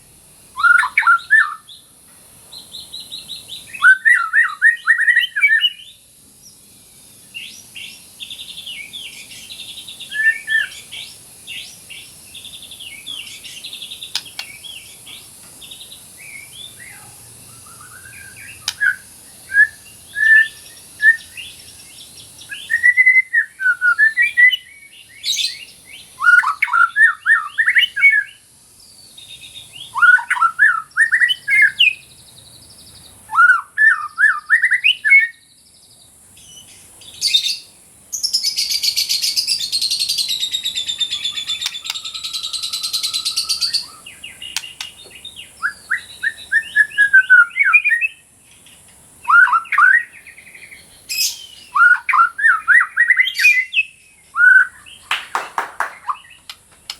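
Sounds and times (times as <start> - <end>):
bird singing whistles and trills: 0.5 - 1.9, 2.5 - 35.6, 36.4 - 48.2, 49.2 - 56.9.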